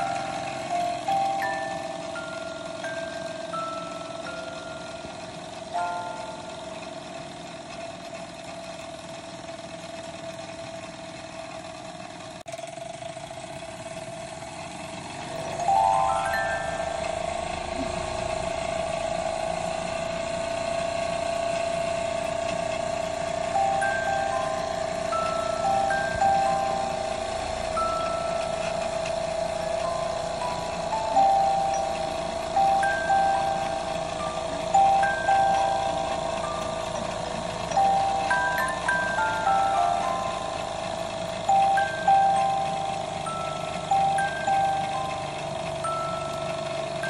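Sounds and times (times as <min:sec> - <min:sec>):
music box mechanism rattling: 0:00.0 - 0:08.9, 0:15.2 - 0:19.3, 0:21.5 - 0:47.0
music box note ringing: 0:00.0 - 0:08.9, 0:15.1 - 0:47.0.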